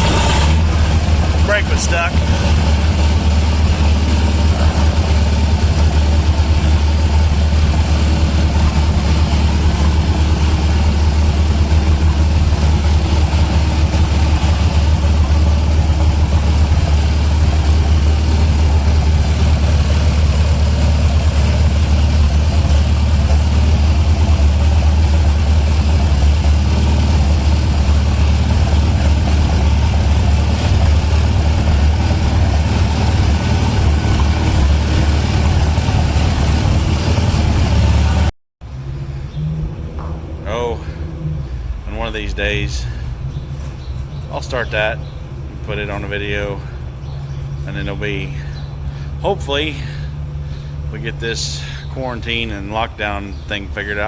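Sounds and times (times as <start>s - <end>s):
large engine droning: 0.0s - 54.0s.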